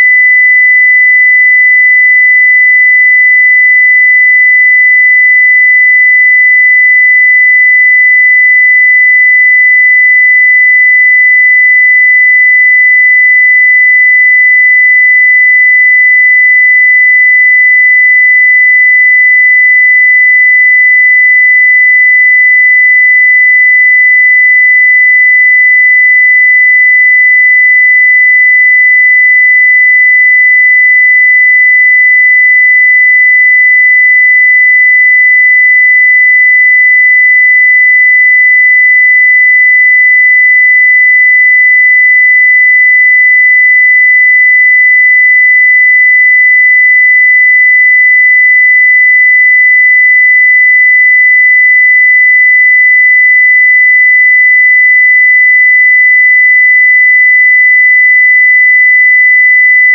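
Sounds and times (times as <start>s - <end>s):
sine wave test tone: 0.0s - 59.9s.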